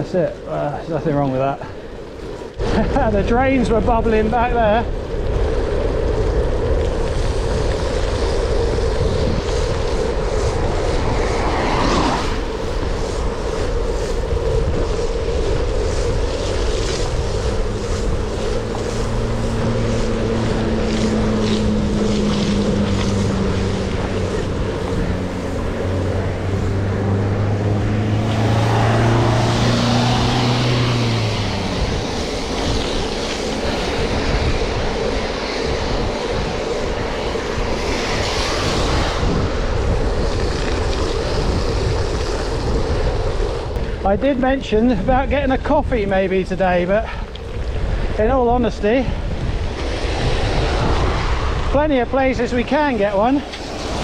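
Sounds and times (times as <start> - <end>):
bicycle tyres on wet road: 0.0 - 54.0
engine hum: 0.0 - 54.0
passing traffic: 0.0 - 54.0
wind buffeting microphone: 0.0 - 54.0.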